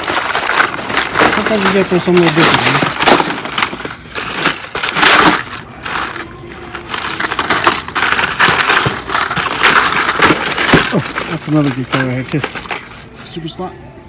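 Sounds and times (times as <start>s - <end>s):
plastic blister packs crinkling: 0.0s - 13.2s.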